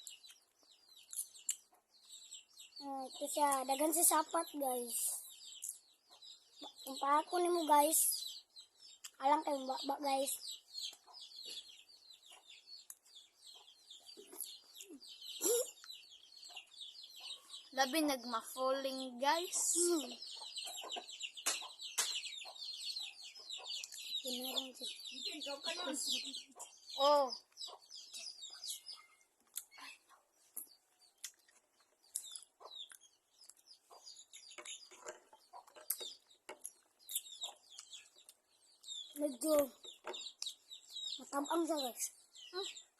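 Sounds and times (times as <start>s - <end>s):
chickens clucking: 0.0s - 42.9s
high-pitched bird chirping: 0.0s - 42.9s.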